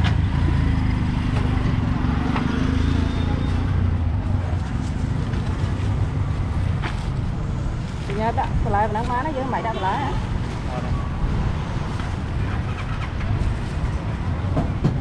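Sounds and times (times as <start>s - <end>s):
market background noise: 0.0s - 15.0s.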